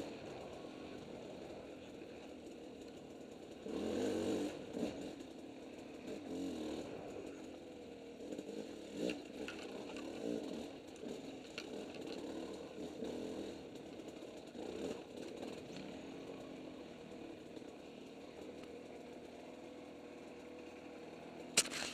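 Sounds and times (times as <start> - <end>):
dirt bike engine revving: 3.6 - 7.5, 8.2 - 21.9.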